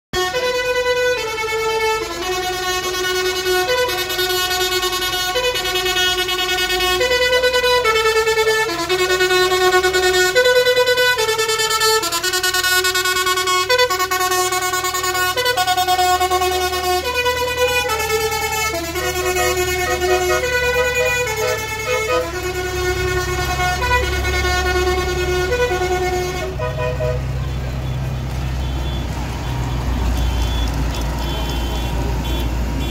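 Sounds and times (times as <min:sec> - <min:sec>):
tractor musical horn playing: 0:00.1 - 0:32.9
tractor engines running: 0:00.2 - 0:32.9.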